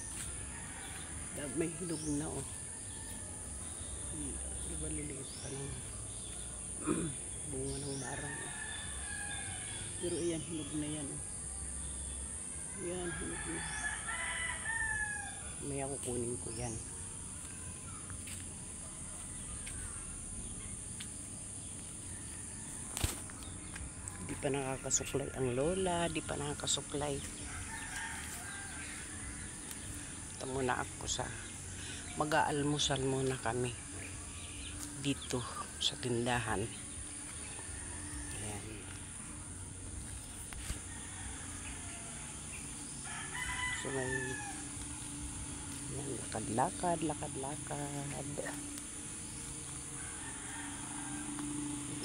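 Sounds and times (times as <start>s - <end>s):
insects trilling: 0.0s - 52.0s.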